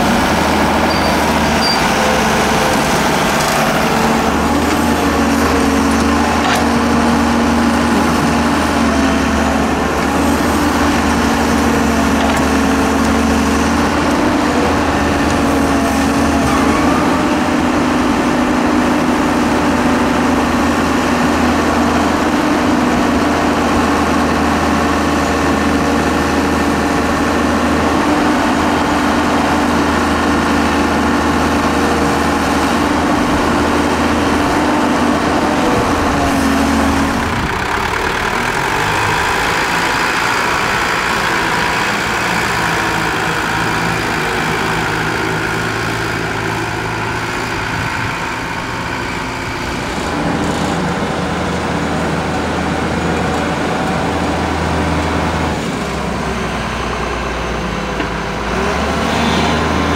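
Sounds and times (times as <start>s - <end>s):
dump truck engine driving off: 0.0s - 59.9s
excavator diesel engine: 0.0s - 59.9s.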